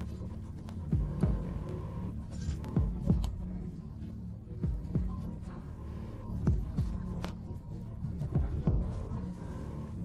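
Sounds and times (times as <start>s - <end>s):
low electronic drone: 0.0s - 10.0s.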